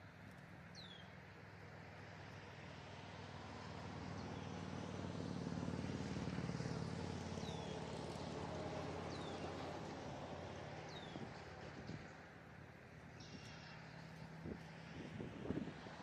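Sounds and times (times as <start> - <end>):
passing vehicle engine hum: 0.0 - 16.0.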